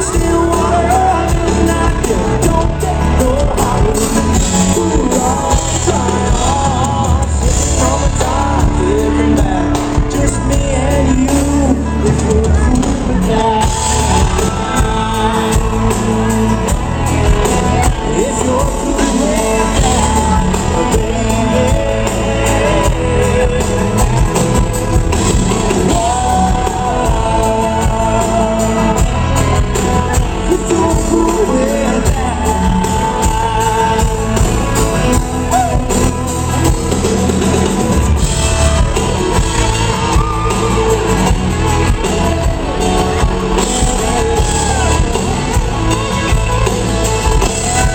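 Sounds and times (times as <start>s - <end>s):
live country-rock band playing: 0.0s - 47.9s
person singing: 0.0s - 47.9s.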